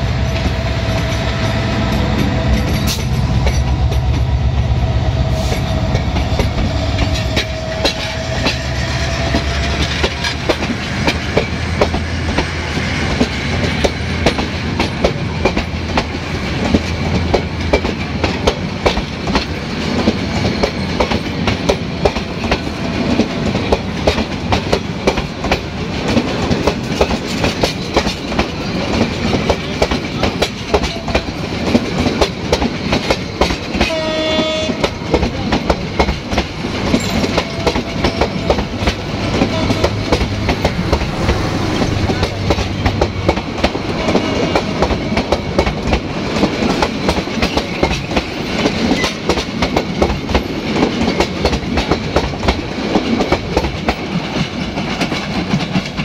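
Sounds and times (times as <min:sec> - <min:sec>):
train rumble: 0:00.0 - 0:56.0
wheels clacking over rail joints: 0:05.4 - 0:56.0.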